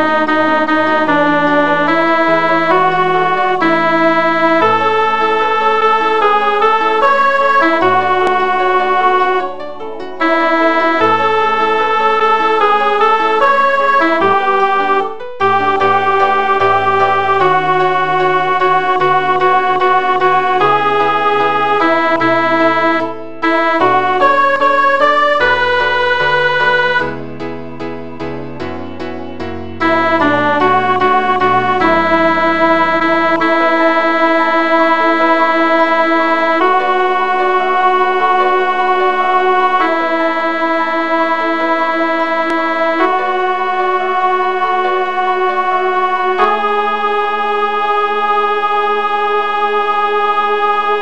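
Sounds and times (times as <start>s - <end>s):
synthesized choir voices: 0.0s - 9.6s, 10.2s - 51.0s
piano chords: 0.0s - 51.0s.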